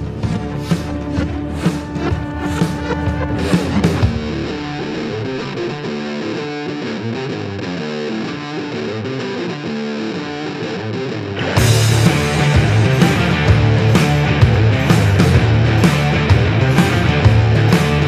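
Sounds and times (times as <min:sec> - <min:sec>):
guitar plucking notes: 0:00.0 - 0:18.0.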